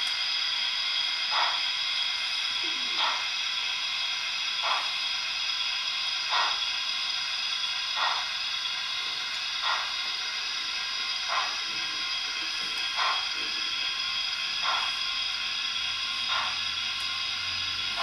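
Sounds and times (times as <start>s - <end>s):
model locomotive steam hiss: 0.0s - 18.0s
soft steam chuffs: 0.0s - 18.0s.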